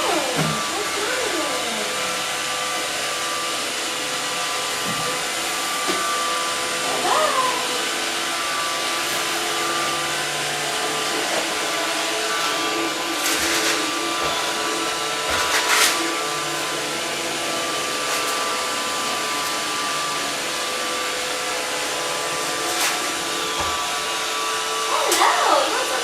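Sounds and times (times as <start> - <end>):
robot vacuum tones: 0.0 - 26.0
robot vacuum whirring: 0.0 - 26.0.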